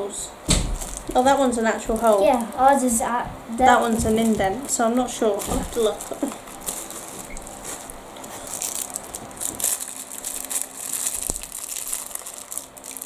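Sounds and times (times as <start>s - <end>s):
plastic packaging crinkling: 0.5s - 13.0s.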